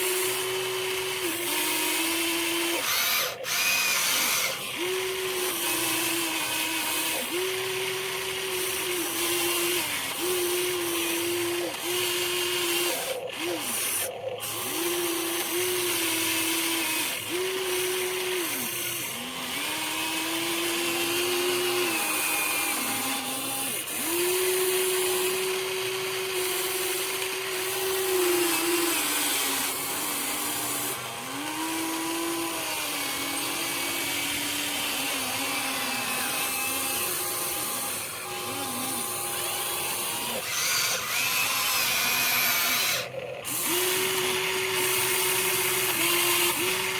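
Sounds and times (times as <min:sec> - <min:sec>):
gear and motor hiss: 0:00.0 - 0:46.9
small electric motors whining: 0:00.0 - 0:46.9.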